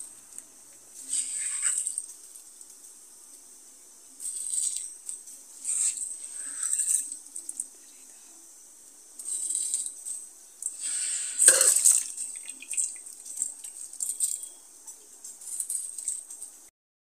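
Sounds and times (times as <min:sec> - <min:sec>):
curry boiling and spitting: 0:00.0 - 0:16.7.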